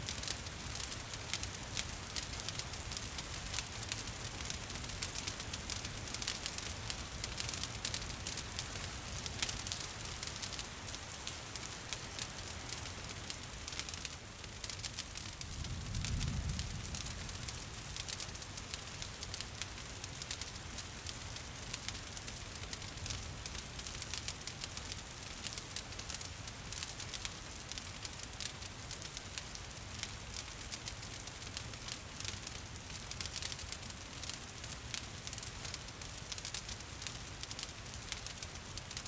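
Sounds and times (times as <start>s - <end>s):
rain pattering: 0.0s - 39.0s
wood fire crackling: 0.0s - 39.0s.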